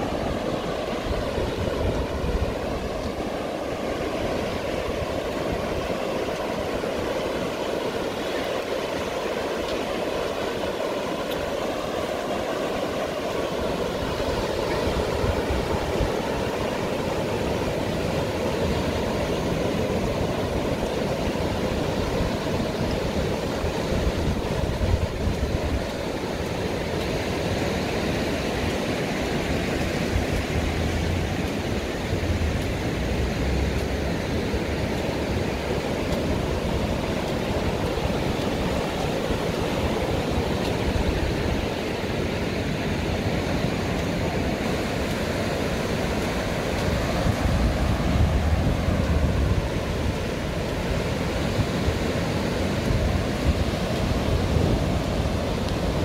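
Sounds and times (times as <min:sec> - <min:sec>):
waves breaking on beach: 0:00.0 - 0:56.0
wind buffeting microphone: 0:00.0 - 0:56.0.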